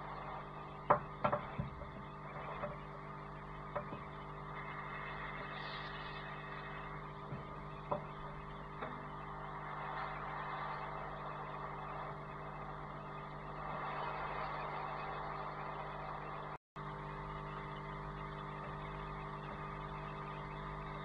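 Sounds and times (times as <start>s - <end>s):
electrical hum and whir: 0.0s - 21.0s.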